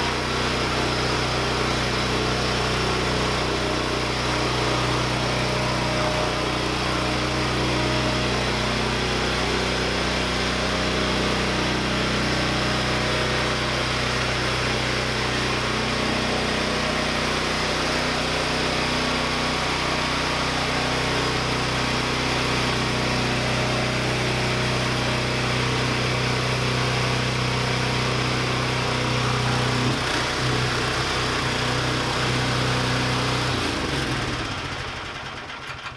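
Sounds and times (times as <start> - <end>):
lawn tractor engine running: 0.0 - 35.9.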